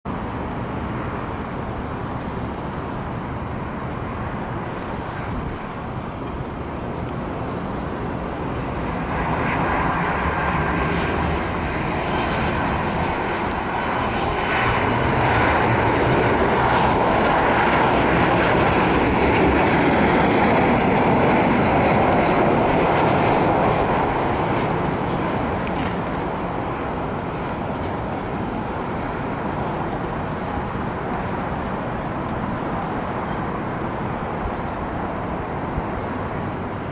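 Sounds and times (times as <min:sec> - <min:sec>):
airliner jet engines rumbling: 0:00.0 - 0:36.9.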